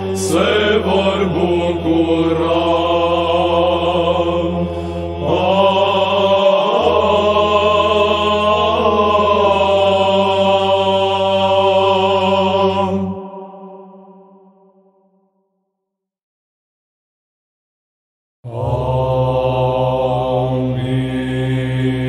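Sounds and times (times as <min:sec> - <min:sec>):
low vocal drone: 0:00.0 - 0:14.6, 0:18.5 - 0:22.0.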